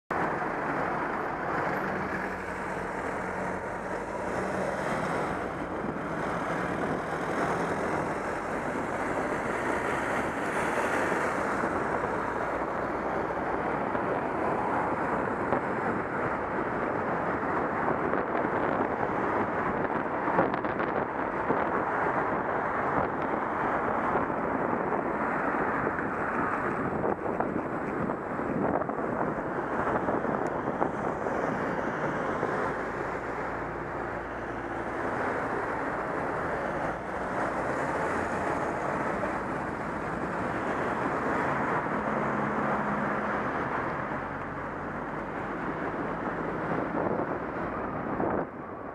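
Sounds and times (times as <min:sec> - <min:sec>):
wind and road noise from moving car: 0:00.1 - 0:48.9.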